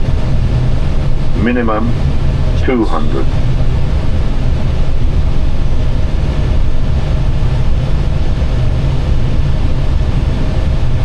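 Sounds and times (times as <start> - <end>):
airflow and engine rumble: 0.0 - 11.0
faint steady tones: 0.0 - 11.0.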